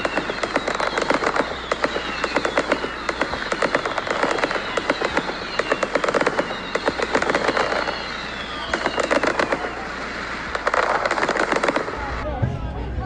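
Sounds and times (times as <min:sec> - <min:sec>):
fireworks crackling: 0:00.0 - 0:12.5
descending firework whistle: 0:00.0 - 0:12.7.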